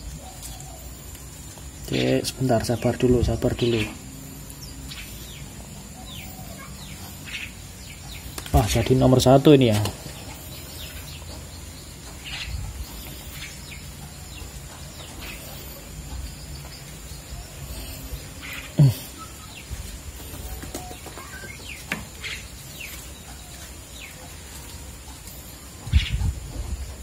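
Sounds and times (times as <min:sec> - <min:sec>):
nestling chirping: 0:00.0 - 0:27.0.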